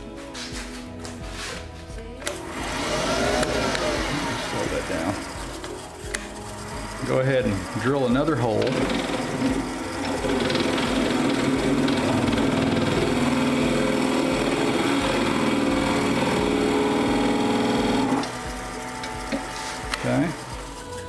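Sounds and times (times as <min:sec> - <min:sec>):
lathe and drill whirring: 0:02.2 - 0:21.0.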